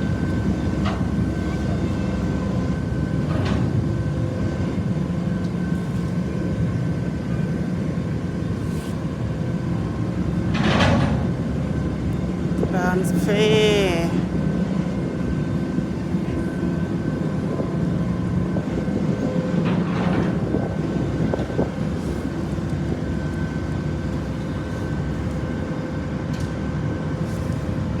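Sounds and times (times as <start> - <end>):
boat engine drone: 0.0 - 28.0.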